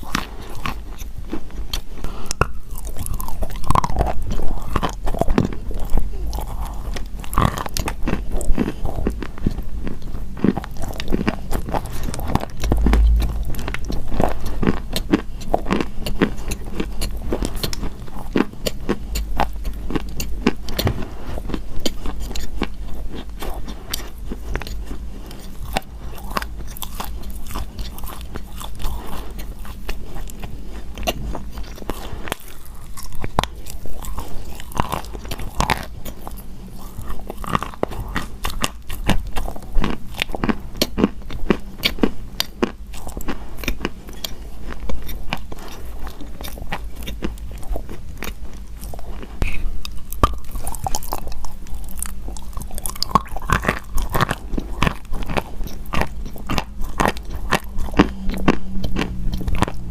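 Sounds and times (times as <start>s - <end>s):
chalk crunching while chewed: 0.0s - 59.9s.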